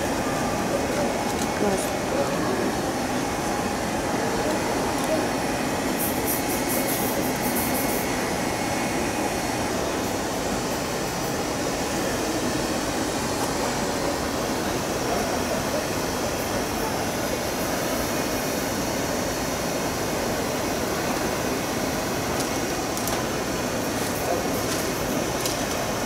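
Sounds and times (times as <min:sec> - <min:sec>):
crowd murmur in a hall: 0:00.0 - 0:26.0.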